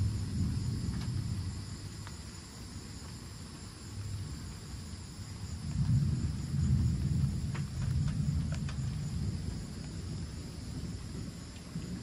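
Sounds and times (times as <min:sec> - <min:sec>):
distant thunder rumbling: 0:00.0 - 0:12.0
high drone of insects: 0:00.0 - 0:12.0.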